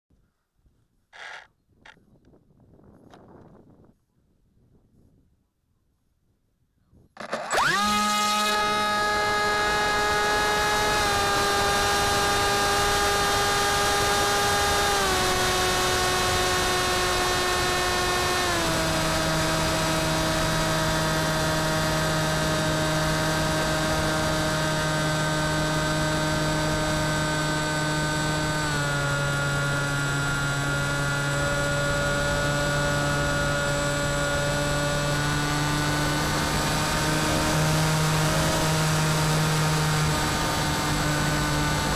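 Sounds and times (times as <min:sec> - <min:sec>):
electric motor and propeller whine: 0:07.2 - 0:41.9.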